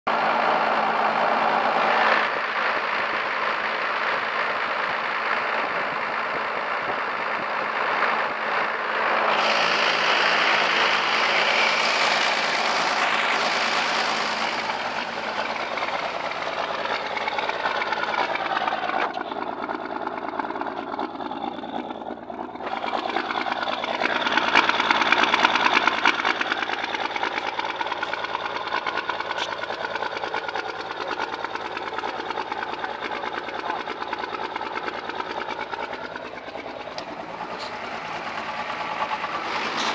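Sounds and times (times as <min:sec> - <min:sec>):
diesel engine idling roughly: 0:00.1 - 0:39.9.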